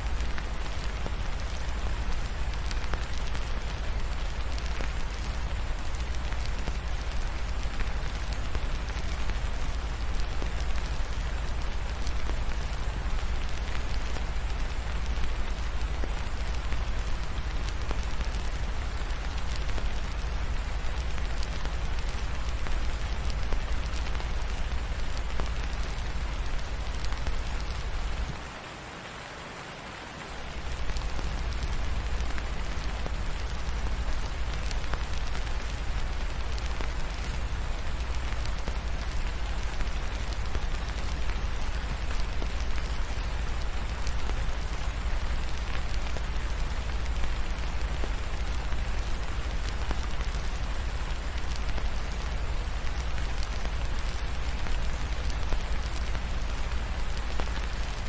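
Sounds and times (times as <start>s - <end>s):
crackling fireplace: 0.0s - 28.9s, 30.2s - 58.0s
steady rain: 0.0s - 58.0s.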